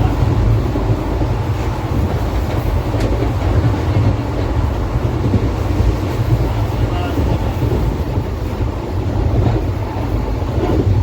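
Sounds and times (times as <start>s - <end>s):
passenger train rumbling on track: 0.0s - 11.0s.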